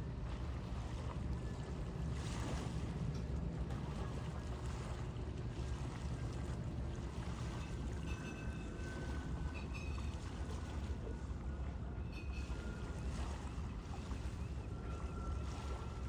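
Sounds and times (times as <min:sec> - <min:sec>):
water washing along shore: 0:00.0 - 0:16.0.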